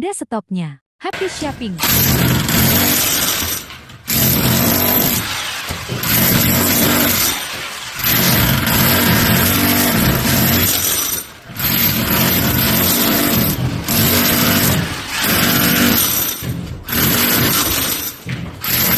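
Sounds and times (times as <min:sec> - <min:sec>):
hammer drill rattling: 0:01.8 - 0:18.9.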